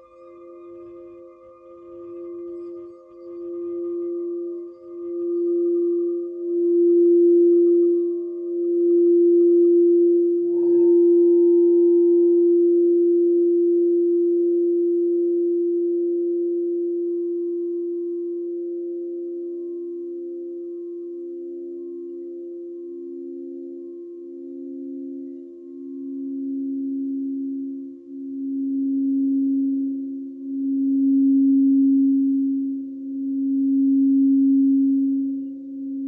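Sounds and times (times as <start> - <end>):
crystal singing bowl tone: 0.0 - 36.0
lower pulsing tone: 0.0 - 36.0.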